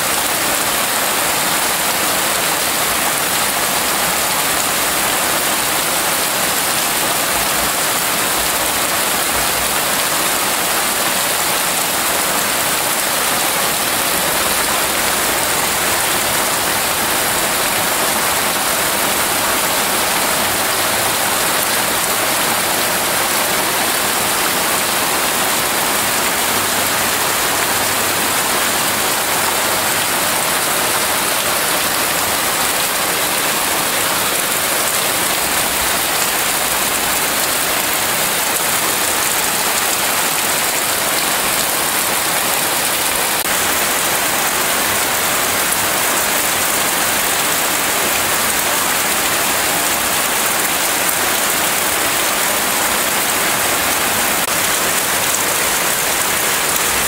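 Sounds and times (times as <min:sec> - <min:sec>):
rain pouring on grass and leaves: 0:00.0 - 0:57.0.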